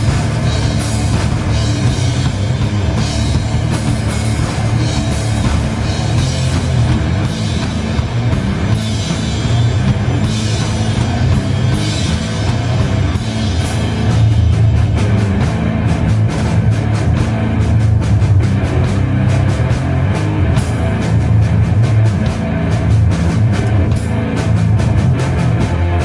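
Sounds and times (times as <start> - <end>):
drum kit with crashing cymbals: 0.0 - 26.0
metal band playing live: 0.0 - 26.0.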